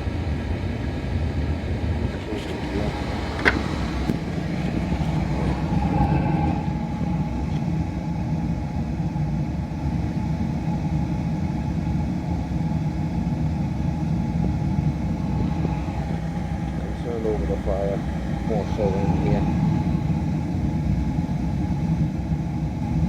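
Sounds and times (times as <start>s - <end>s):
faint steady hum: 0.0s - 23.0s
oil burner rumbling: 0.0s - 23.0s.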